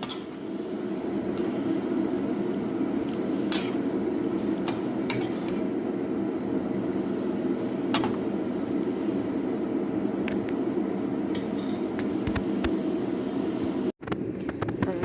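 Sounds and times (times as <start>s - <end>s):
pot boiling and bubbling: 0.0s - 15.0s.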